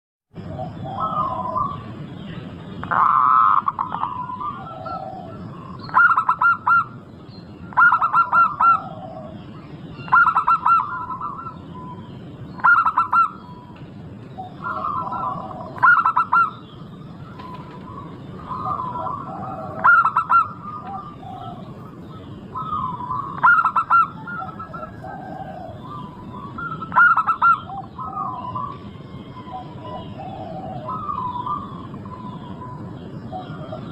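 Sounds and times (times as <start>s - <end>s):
soft bird calls: 0.3s - 33.9s
dove cooing song: 0.4s - 33.9s.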